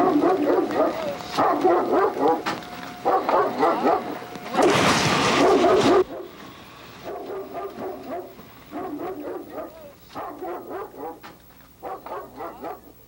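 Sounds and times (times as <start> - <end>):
dog barking: 0.0 - 4.7, 5.3 - 6.4, 7.0 - 13.0.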